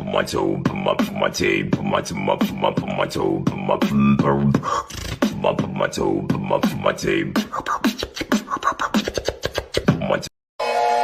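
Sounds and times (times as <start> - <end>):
rapid vocal clicks: 0.0 - 10.3.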